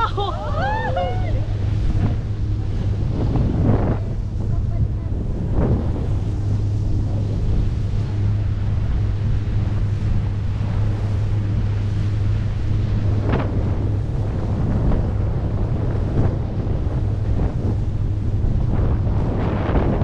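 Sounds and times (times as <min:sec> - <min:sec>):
hiss of churning wake: 0:00.0 - 0:20.0
steady low hum: 0:00.0 - 0:20.0
wind rushing over microphone: 0:00.0 - 0:20.0.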